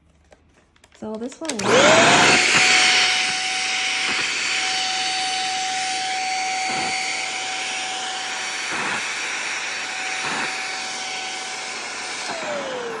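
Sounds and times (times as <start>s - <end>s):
vacuum cleaner running: 1.0s - 13.0s.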